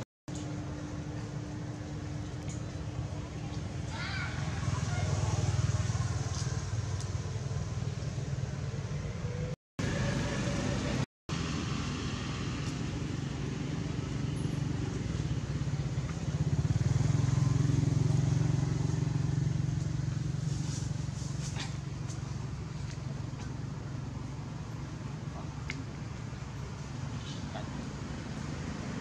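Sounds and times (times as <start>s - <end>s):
motor engine running: 0.4s - 29.0s.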